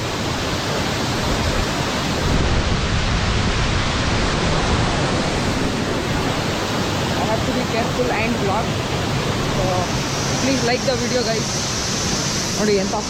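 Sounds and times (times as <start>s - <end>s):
waterfall and river roar: 0.0s - 13.0s.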